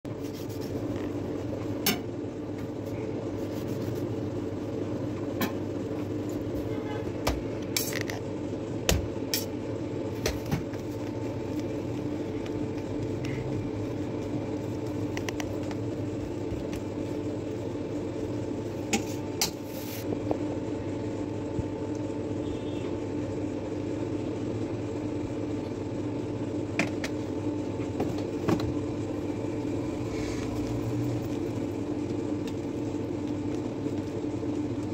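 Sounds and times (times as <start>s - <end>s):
background hum: 0.1s - 34.9s.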